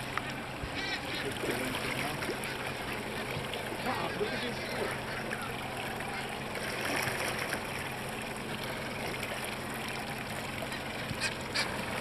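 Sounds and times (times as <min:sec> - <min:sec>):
low steady hum: 0:00.0 - 0:12.0
water rushing along boat hull: 0:00.0 - 0:12.0.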